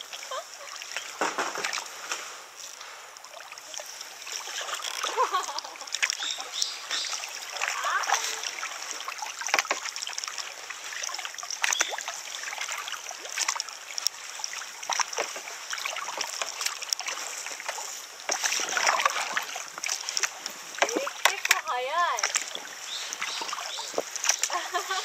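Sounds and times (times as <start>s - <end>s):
kayak paddles pulling through water: 0.0s - 25.0s
water splashing and dripping: 0.0s - 25.0s.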